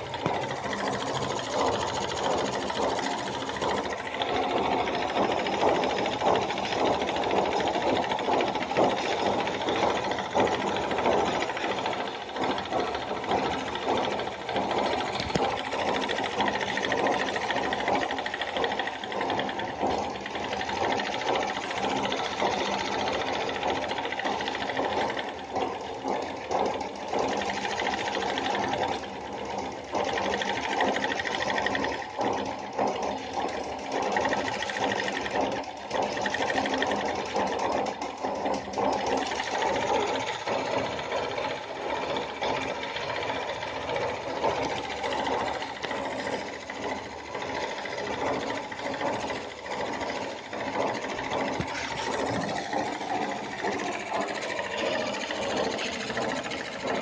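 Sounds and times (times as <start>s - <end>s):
model steam engine clattering: 0.0s - 57.0s.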